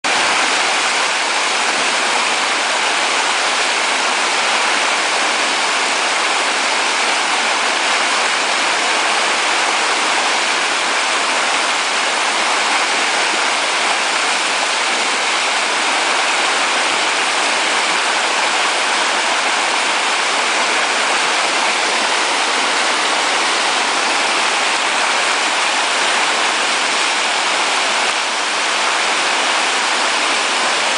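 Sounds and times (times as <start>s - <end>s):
river whitewater rushing: 0.1s - 30.9s.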